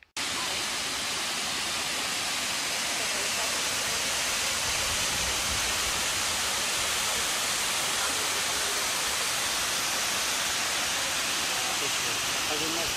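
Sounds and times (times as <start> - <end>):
waterfall rushing: 0.2 - 12.9.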